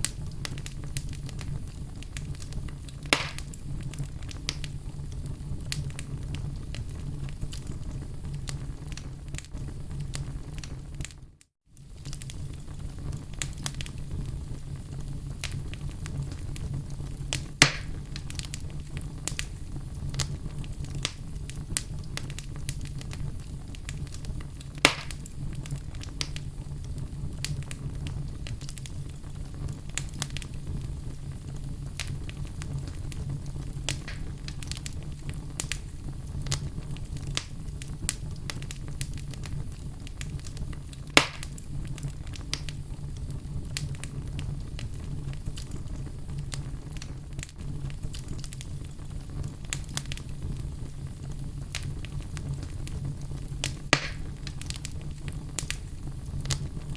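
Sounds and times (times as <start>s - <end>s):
loud fire pops: 0.0s - 56.9s
wood fire crackling: 0.0s - 56.9s.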